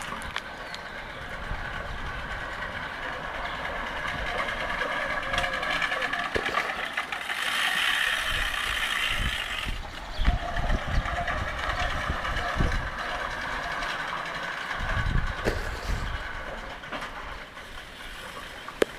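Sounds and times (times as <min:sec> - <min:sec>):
push reel mower whirring: 0:00.0 - 0:18.9.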